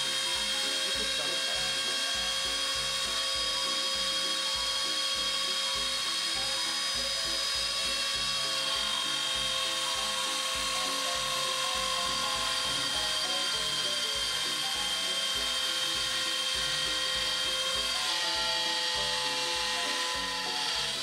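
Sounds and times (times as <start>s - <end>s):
rotary tool whining: 0.0s - 21.0s
stepper motor tones: 0.0s - 21.0s.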